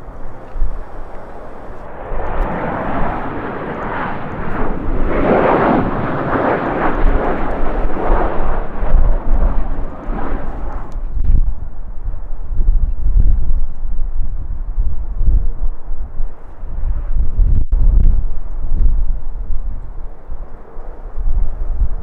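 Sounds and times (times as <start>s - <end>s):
jet airliner engine roar: 0.0s - 22.0s
wind buffeting microphone: 0.0s - 22.0s.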